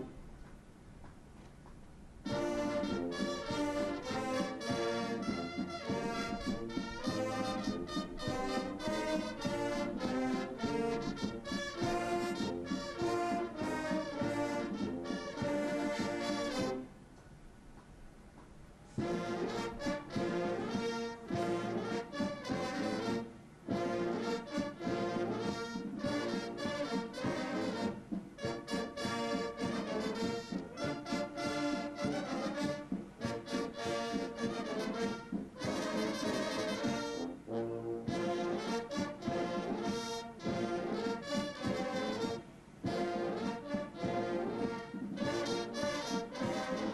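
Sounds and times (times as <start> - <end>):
brass band playing held chords: 0.0 - 0.2, 2.2 - 16.9, 18.9 - 46.9.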